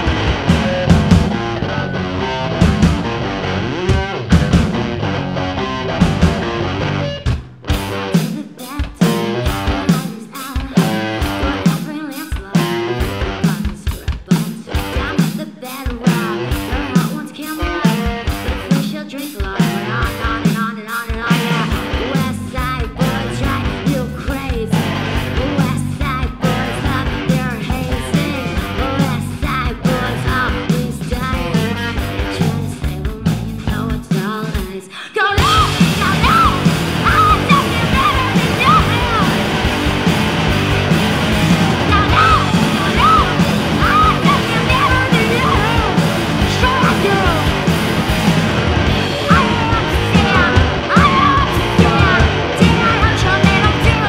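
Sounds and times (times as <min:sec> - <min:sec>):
drum kit beat: 0:00.0 - 0:01.8, 0:02.5 - 0:05.1, 0:05.9 - 0:34.8, 0:35.4 - 0:54.0
electric bass guitar: 0:00.0 - 0:08.3, 0:09.0 - 0:10.0, 0:10.7 - 0:11.7, 0:12.6 - 0:13.5, 0:16.1 - 0:17.0, 0:21.2 - 0:34.1, 0:35.4 - 0:54.0
live rock band: 0:00.0 - 0:54.0.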